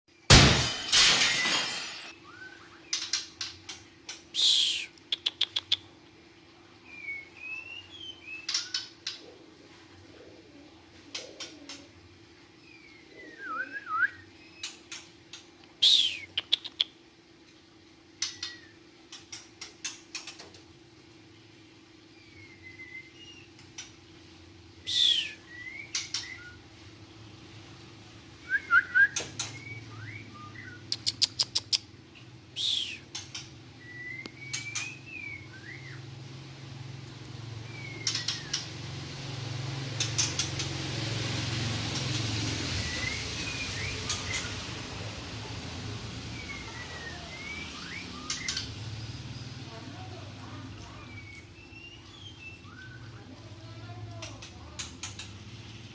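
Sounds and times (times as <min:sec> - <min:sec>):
birds calling with clicks and whistles: 0:02.1 - 0:09.5, 0:10.8 - 0:55.9.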